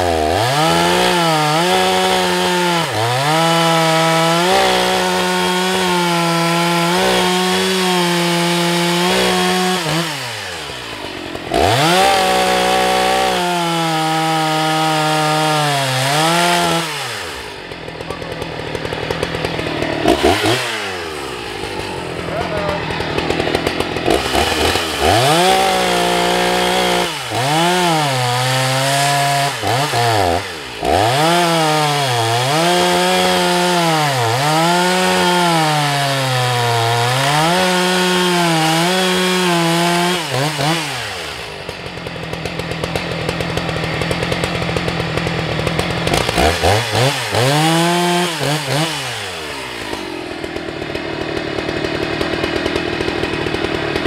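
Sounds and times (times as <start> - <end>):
chainsaw cutting logs: 0.0 - 54.0.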